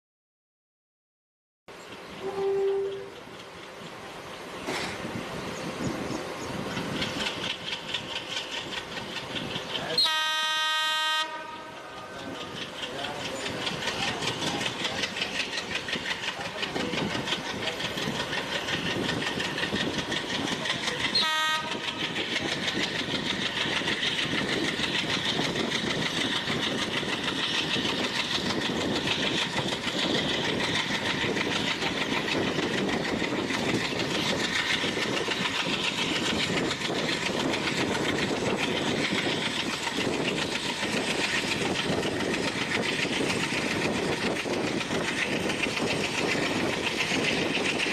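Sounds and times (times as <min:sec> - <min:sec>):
train wheels rumbling on rails: 0:01.7 - 0:47.9.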